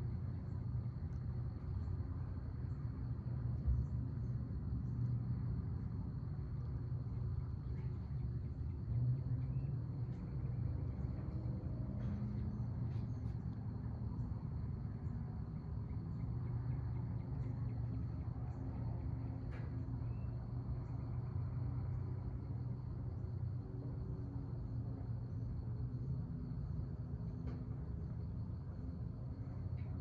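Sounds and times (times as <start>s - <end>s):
insects trilling: 0.1s - 30.0s.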